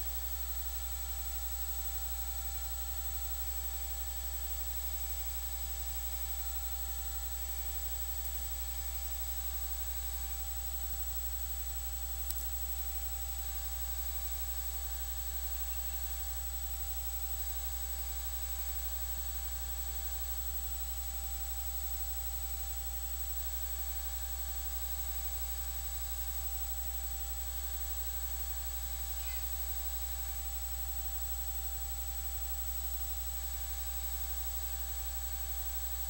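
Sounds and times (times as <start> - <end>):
electrical hum and hiss: 0.0 - 36.0.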